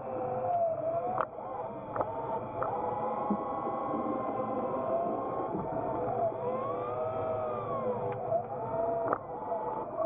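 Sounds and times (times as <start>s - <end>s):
thruster motors whining: 0.2s - 10.0s.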